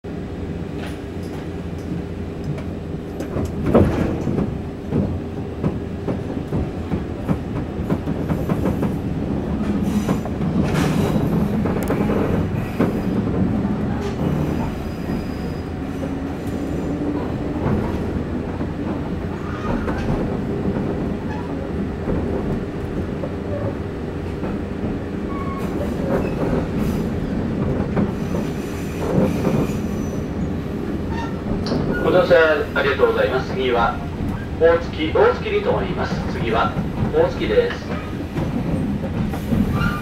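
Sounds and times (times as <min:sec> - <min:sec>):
train motors humming: 0:00.0 - 0:40.0
train wheel noise: 0:00.0 - 0:40.0
rail joint clicks: 0:00.6 - 0:40.0.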